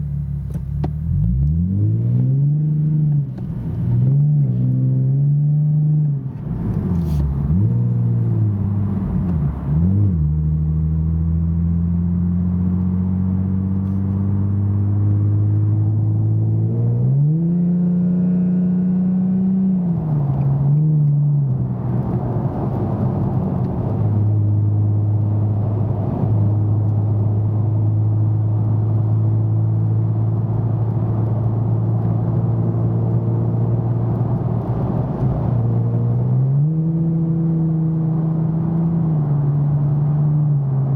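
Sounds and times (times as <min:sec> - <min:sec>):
car engine heard from cabin: 0:00.0 - 0:40.9.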